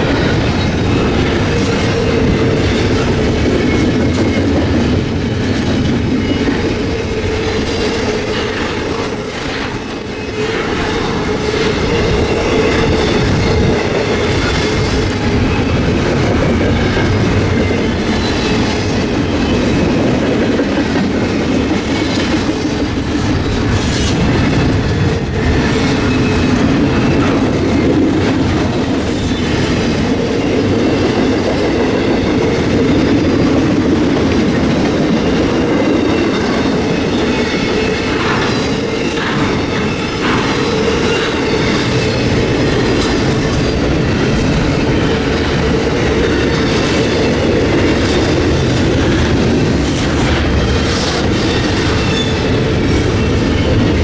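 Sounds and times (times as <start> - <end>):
freight train wheels clacking: 0.0 - 54.0.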